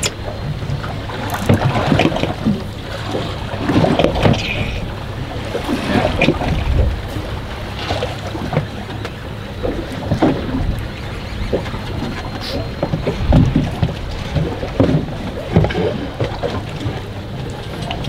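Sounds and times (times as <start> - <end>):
low rumble: 0.0 - 18.0
water sloshing against boat hull: 0.0 - 18.0.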